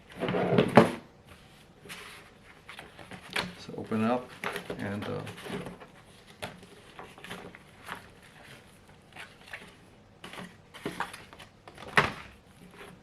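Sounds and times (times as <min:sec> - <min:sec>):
paper envelope rustling: 0:01.3 - 0:13.0.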